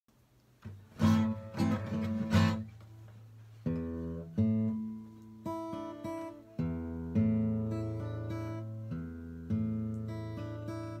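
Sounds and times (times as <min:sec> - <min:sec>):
acoustic guitar strumming chords: 0:00.6 - 0:11.0.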